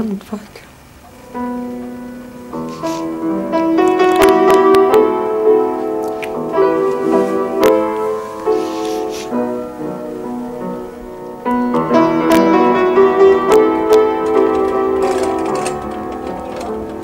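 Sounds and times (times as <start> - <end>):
slow piano music: 0.8 - 17.0.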